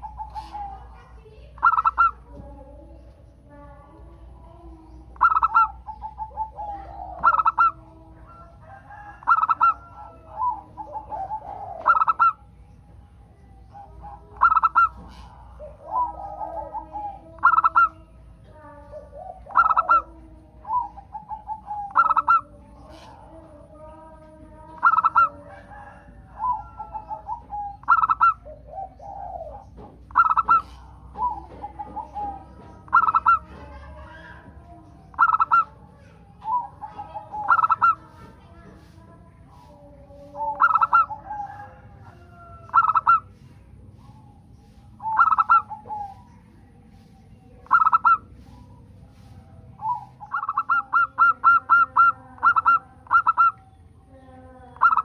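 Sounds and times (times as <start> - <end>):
dove cooing: 0.0 - 55.0
dove rolling trills: 0.0 - 55.0.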